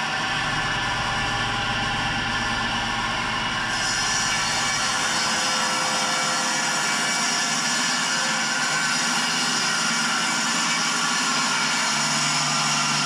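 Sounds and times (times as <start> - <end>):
table saw cutting wood: 0.0 - 13.0.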